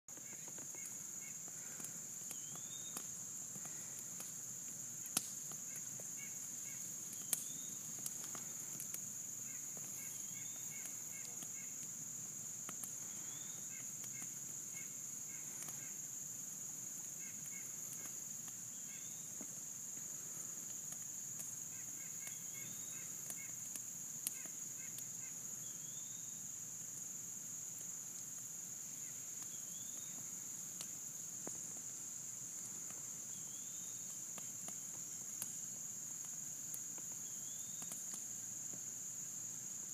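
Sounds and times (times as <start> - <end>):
campfire popping and cracking: 0.1 - 25.2, 26.8 - 38.9
insects droning: 0.1 - 39.9.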